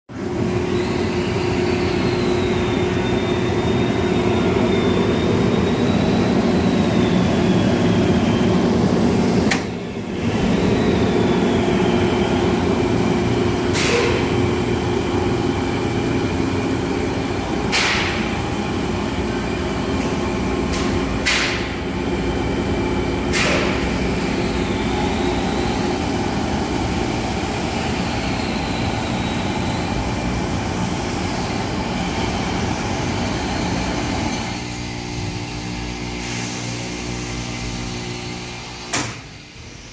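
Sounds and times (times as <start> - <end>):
air compressor running: 0.1 - 39.9.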